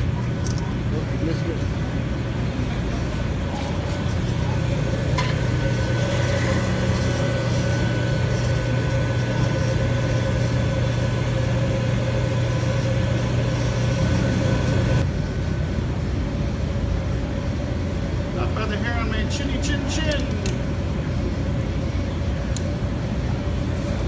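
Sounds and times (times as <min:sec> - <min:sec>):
furnace burner and blower: 0:00.0 - 0:24.0.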